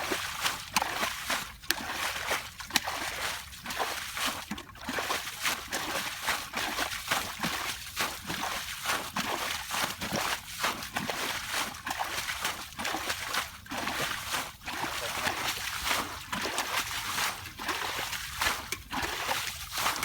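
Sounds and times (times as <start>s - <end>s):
shallow water sloshing and splashing: 0.0s - 20.0s.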